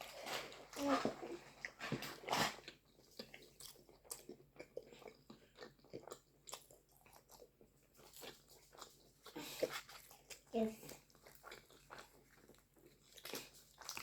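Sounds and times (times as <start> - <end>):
chewing food: 0.0 - 14.0.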